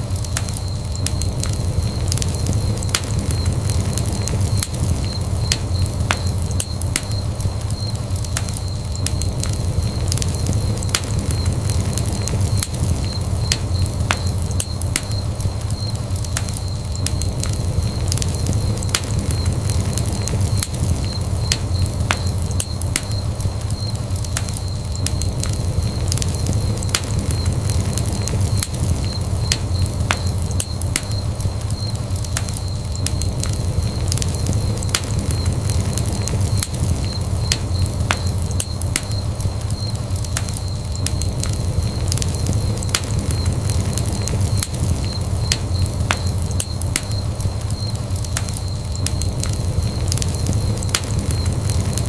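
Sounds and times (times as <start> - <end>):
burning wood crackling and popping: 0.0 - 52.0
fire flames rumbling: 0.0 - 52.0.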